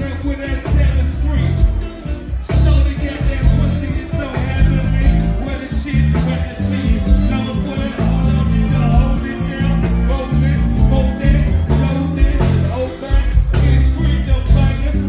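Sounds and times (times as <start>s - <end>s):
bass guitar line: 0.0s - 15.0s
person singing: 0.0s - 15.0s
steady drum beat: 0.0s - 15.0s.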